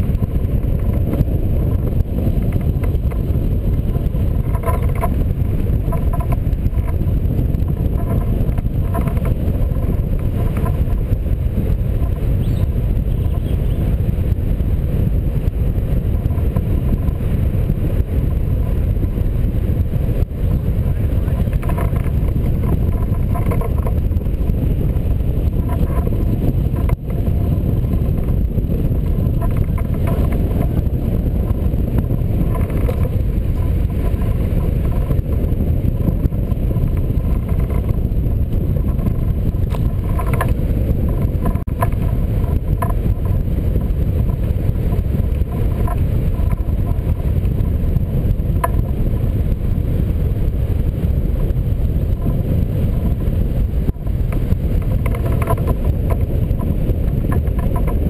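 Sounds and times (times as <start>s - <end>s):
airflow buffeting microphone: 0.0s - 58.0s.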